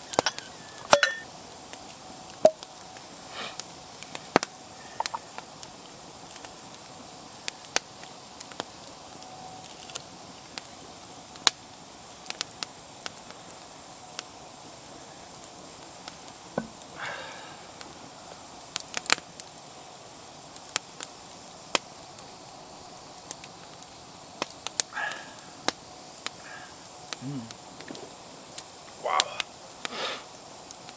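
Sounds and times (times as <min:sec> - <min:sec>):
campfire crackling and popping: 0:00.0 - 0:30.9
faint hiss: 0:00.0 - 0:30.9.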